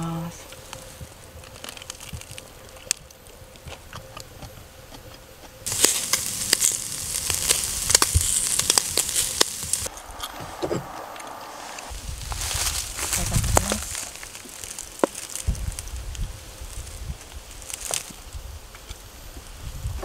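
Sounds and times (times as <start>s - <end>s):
beef sizzling and popping on grill: 0.0s - 10.0s, 11.6s - 20.0s.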